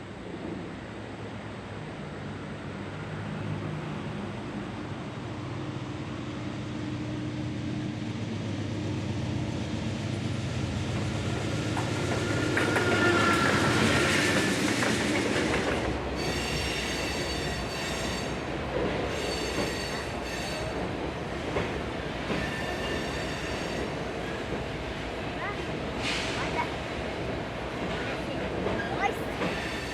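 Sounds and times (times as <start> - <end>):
diesel locomotive engine: 0.0 - 29.9
train cars rolling by: 5.4 - 29.9.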